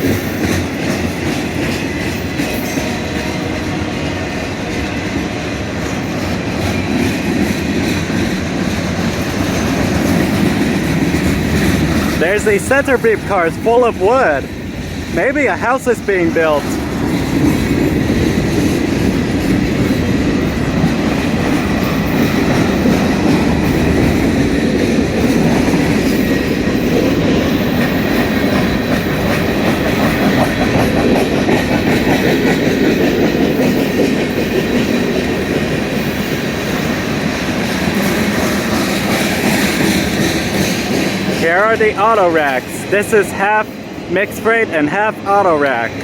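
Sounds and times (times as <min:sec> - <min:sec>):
steel wheels running on rails: 0:00.0 - 0:46.0.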